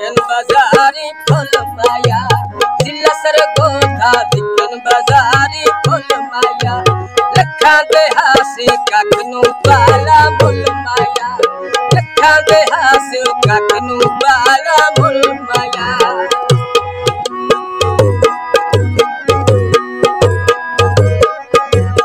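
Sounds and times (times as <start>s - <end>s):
harmonium notes: 0.0s - 22.0s
man singing: 0.0s - 22.0s
tabla rhythm: 0.0s - 22.0s.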